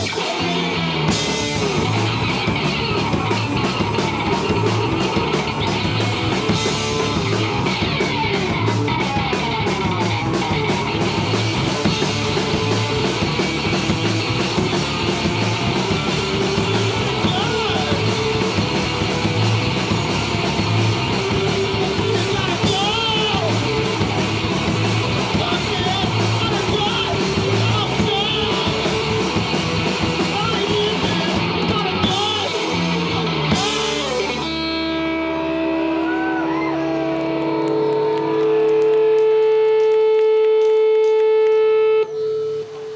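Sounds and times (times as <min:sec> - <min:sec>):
drum kit beat: 0:00.0 - 0:36.4
electric guitars: 0:00.0 - 0:42.9.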